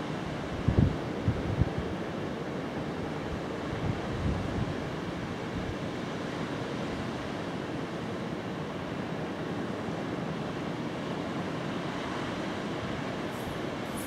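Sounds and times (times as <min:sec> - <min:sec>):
sea surf washing ashore: 0:00.0 - 0:14.0.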